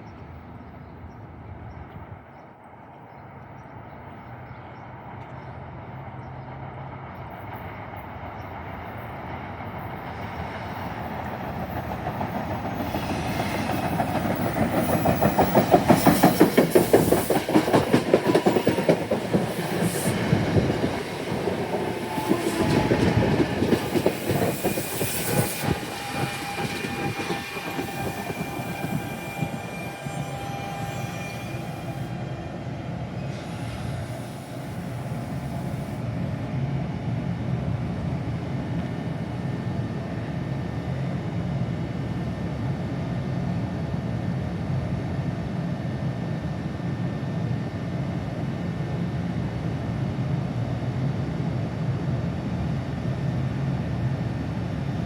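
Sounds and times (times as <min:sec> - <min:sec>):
passenger train passing: 0:00.0 - 0:55.0.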